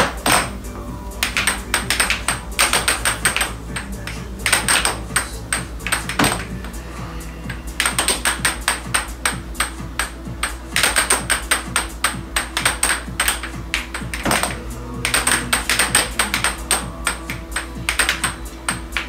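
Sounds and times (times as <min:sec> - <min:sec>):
air blower hum: 0:00.0 - 0:19.0
air hockey puck clacking: 0:01.2 - 0:06.5, 0:07.8 - 0:19.0.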